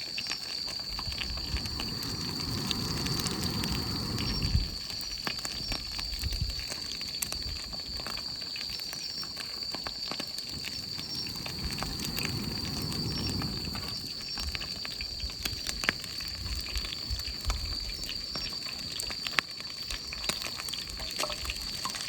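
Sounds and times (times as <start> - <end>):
campfire crackling and popping: 0.0 - 22.0
wings deep-frying in oil: 0.0 - 22.0.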